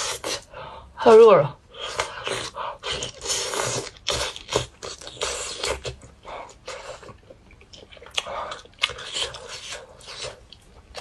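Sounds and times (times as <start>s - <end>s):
person sucking and chewing food: 0.0s - 0.5s, 1.7s - 11.0s.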